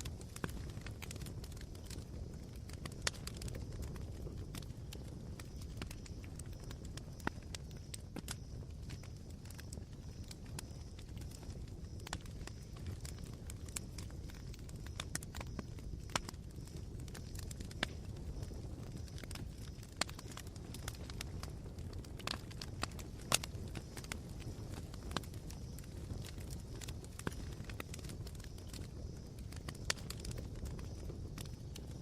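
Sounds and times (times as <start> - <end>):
campfire crackling and popping: 0.0 - 32.0
low fire rumble: 0.0 - 32.0.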